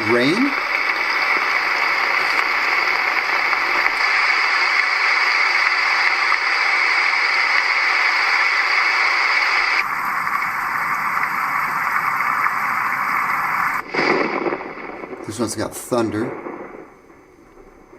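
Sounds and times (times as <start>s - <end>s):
recorded rain hiss from speaker: 0.0s - 17.9s.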